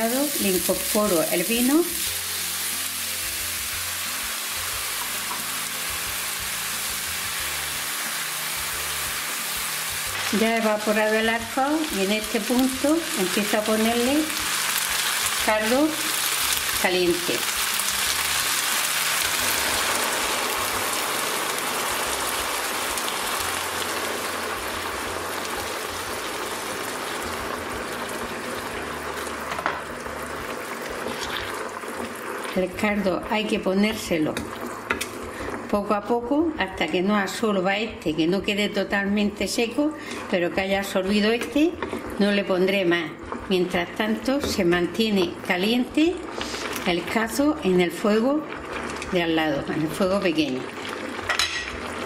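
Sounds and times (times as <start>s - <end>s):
background music: 0.0s - 52.0s
wine sizzling in a frying pan: 0.0s - 52.0s.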